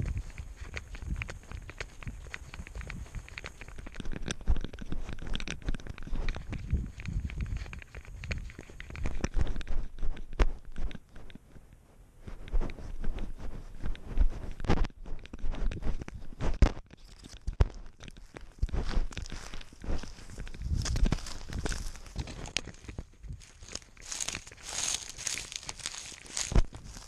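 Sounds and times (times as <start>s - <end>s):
cat footsteps on gravel: 0.0s - 11.5s, 12.2s - 27.0s
fur rubbing camera: 0.0s - 11.6s, 12.2s - 27.0s.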